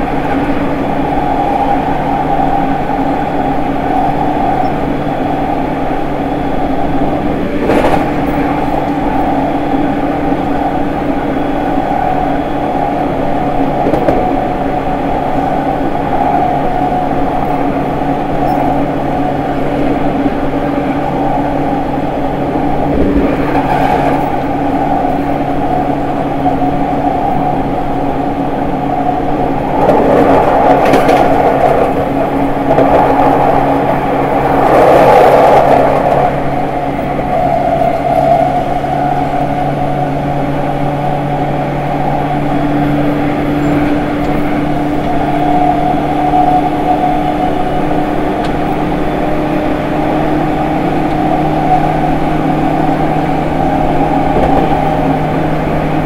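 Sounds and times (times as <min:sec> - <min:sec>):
rail noise: 0:00.0 - 0:56.0
rushing noise: 0:00.0 - 0:56.0
train inverter hum: 0:00.0 - 0:56.0.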